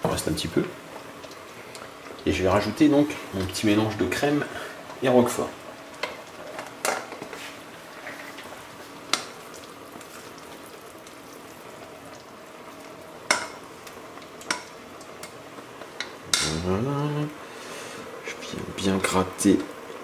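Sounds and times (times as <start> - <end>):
mussels sizzling in pot: 0.0 - 20.0.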